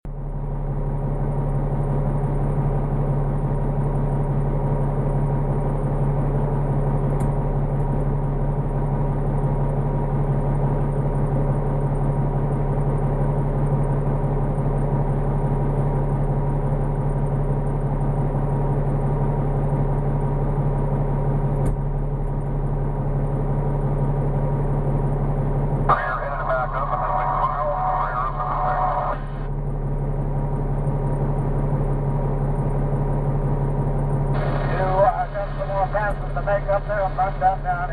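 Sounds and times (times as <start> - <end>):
diesel engine running steadily: 0.0 - 37.9.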